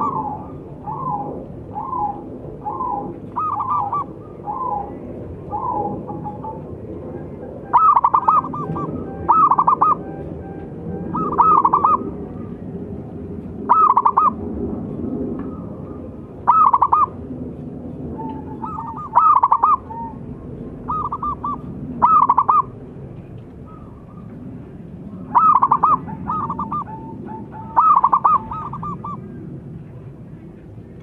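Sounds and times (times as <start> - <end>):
dove cooing: 0.0 - 12.7, 13.6 - 14.4, 15.4 - 17.2, 18.1 - 22.8, 23.6 - 24.4, 25.0 - 29.6
low background hum: 0.0 - 31.0.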